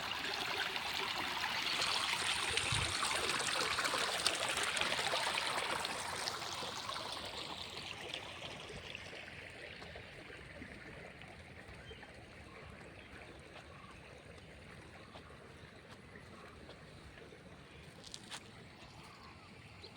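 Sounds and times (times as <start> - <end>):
stream running and splashing: 0.0 - 19.9.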